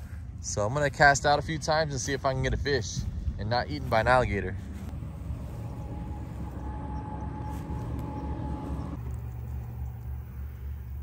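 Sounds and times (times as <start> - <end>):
faint steady whine: 0.0 - 11.0
low rumble of road traffic: 0.0 - 11.0.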